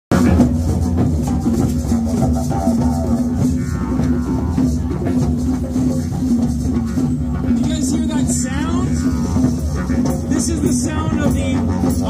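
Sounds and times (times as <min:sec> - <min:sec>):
didgeridoo drone: 0:00.1 - 0:12.0
hand drums beating: 0:00.1 - 0:12.0.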